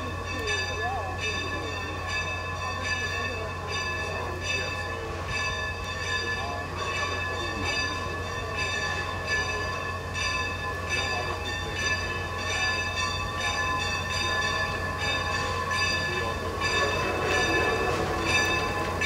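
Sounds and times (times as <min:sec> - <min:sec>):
locomotive bells ringing: 0:00.0 - 0:19.0.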